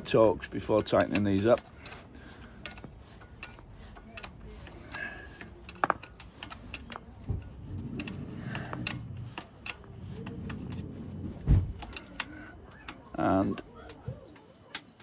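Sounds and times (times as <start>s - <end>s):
hand tools clicking and tapping: 0.0s - 15.0s.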